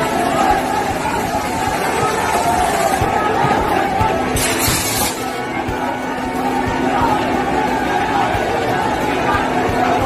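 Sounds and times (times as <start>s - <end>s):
crowd of protesters shouting: 0.0s - 10.0s
music: 0.0s - 10.0s.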